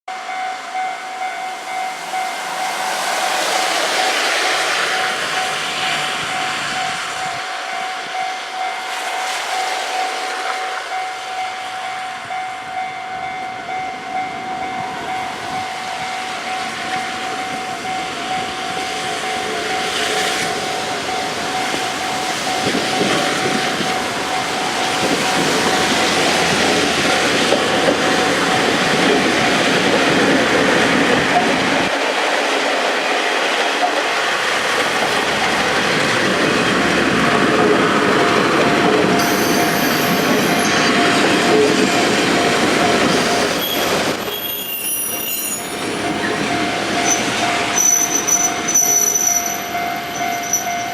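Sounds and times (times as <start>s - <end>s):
level crossing warning bell: 0.1s - 32.0s, 33.5s - 50.9s
diesel railcar passing: 0.1s - 50.9s.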